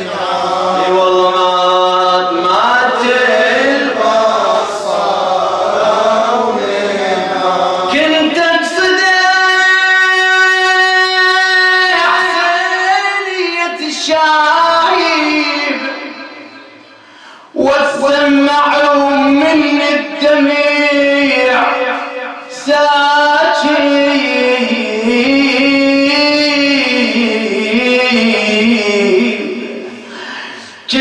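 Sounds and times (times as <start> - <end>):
man chanting unaccompanied elegy: 0.0 - 16.9, 17.5 - 30.0.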